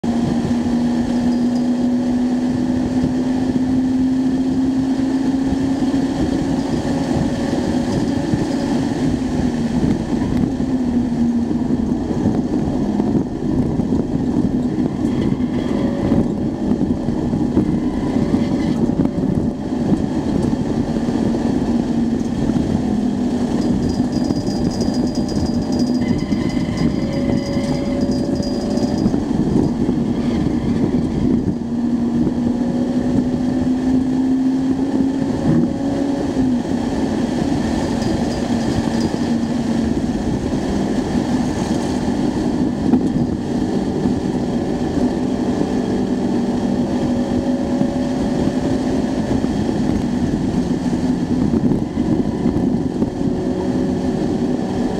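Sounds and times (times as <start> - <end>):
car engine pulling hard: 0.0 - 54.9
road and wind noise: 0.0 - 54.9.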